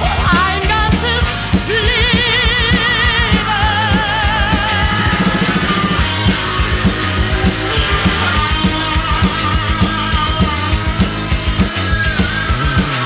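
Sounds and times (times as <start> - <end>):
guitar: 0.0 - 13.0
rock music: 0.0 - 13.0
steady drum beat: 0.0 - 13.0.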